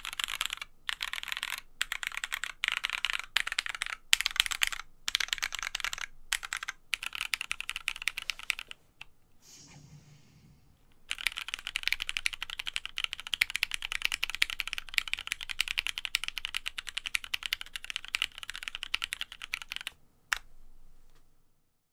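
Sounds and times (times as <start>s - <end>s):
fast typing on mechanical keyboard: 0.0s - 8.8s, 11.1s - 20.0s.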